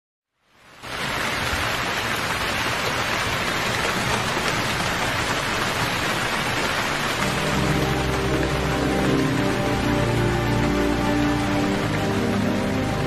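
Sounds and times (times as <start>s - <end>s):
steady rain falling: 0.4s - 13.0s.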